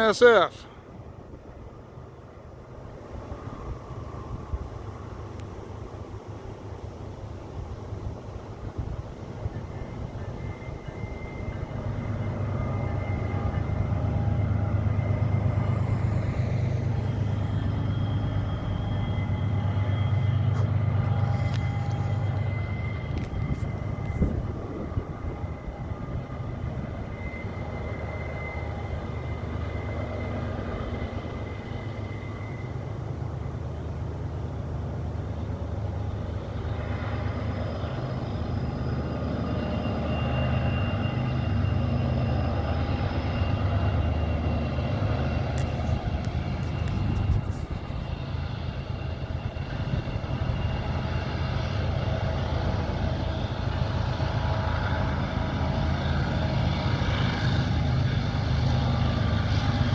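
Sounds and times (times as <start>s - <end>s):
locomotive engine drone: 0.0s - 59.9s.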